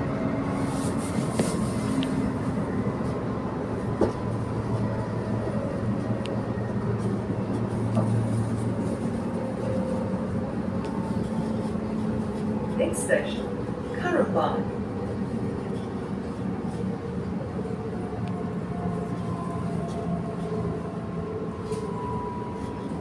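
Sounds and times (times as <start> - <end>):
train interior rumble: 0.0 - 23.0.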